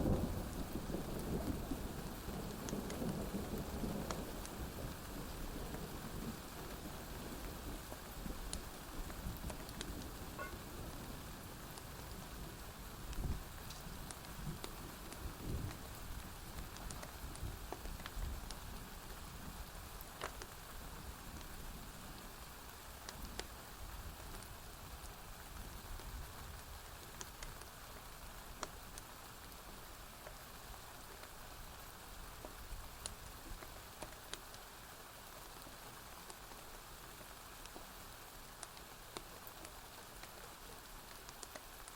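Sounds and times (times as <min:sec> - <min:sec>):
rain on a porch roof: 0:00.0 - 0:41.9
wood fire crackling: 0:00.0 - 0:41.9.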